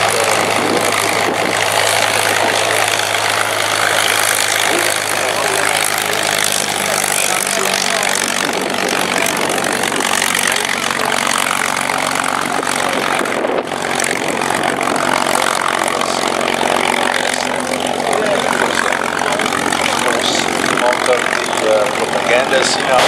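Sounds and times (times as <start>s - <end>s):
propeller plane engine idling: 0.0s - 23.0s.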